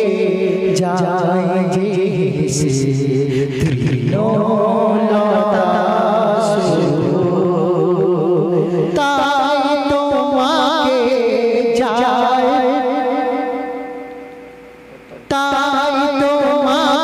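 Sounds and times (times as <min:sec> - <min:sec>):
man singing with vibrato: 0:00.0 - 0:17.0.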